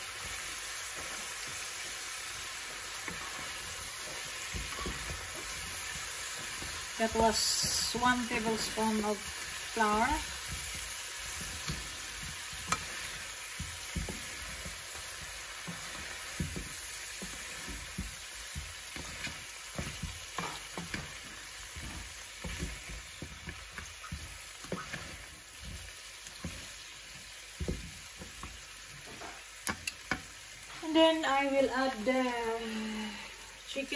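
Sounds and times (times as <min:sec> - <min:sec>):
food sizzling in frying pan: 0:00.0 - 0:33.9
utensils tapping on pan: 0:02.6 - 0:30.4.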